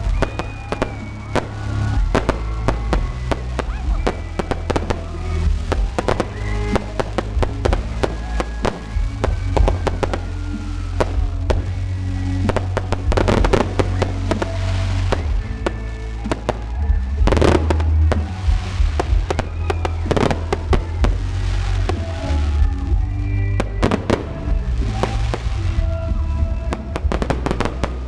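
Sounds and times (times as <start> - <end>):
fireworks bangs and crackles: 0.0 - 28.0
loud music with heavy bass: 0.0 - 28.0.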